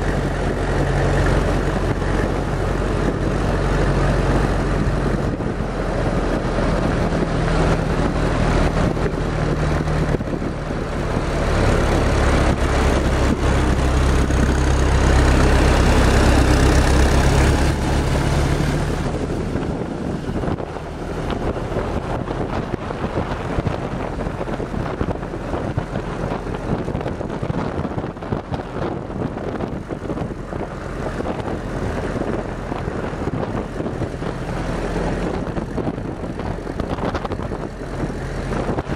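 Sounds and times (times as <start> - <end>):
jeep engine running: 0.0 - 38.9
wind noise: 0.0 - 38.9.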